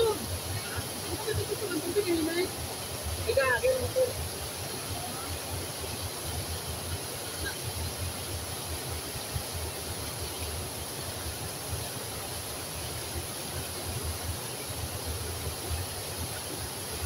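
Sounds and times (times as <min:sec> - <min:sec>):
water rushing over weir: 0:00.0 - 0:17.0.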